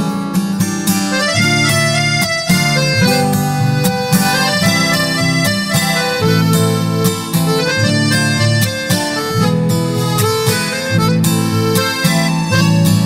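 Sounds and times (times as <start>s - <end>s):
guitar accompaniment: 0.0s - 13.0s
harmonica melody: 0.0s - 13.0s.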